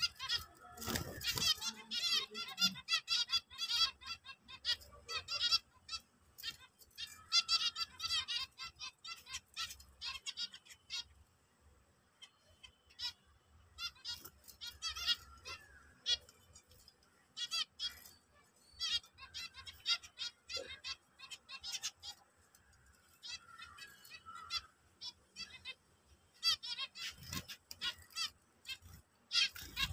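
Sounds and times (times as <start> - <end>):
finches honking calls: 0.0 - 29.9.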